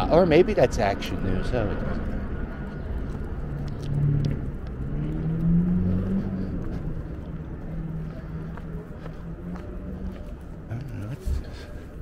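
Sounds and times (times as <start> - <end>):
motor vehicle engine drone: 0.0 - 12.0.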